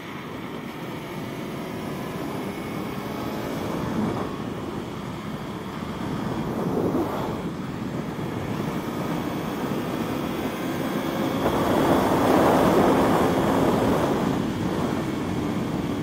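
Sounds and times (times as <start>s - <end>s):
motorcycle engine at speed: 0.0s - 16.0s
wind rush: 1.3s - 16.0s.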